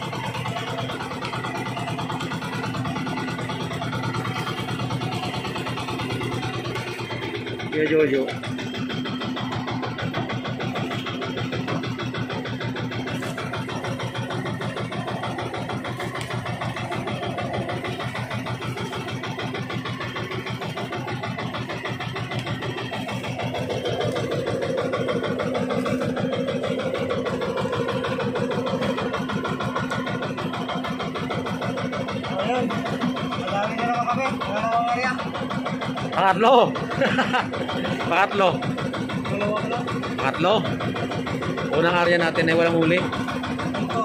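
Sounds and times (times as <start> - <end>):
boat motor running: 0.0 - 44.0.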